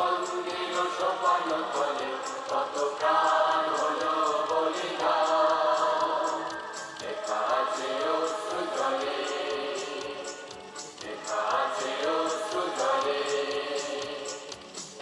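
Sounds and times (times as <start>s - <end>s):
choir singing: 0.0s - 15.0s
musical backing with light beat: 0.0s - 15.0s.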